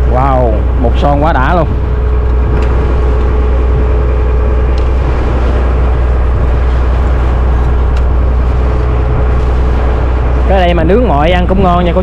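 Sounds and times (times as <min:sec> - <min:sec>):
motor engine droning with whine: 0:00.0 - 0:12.0.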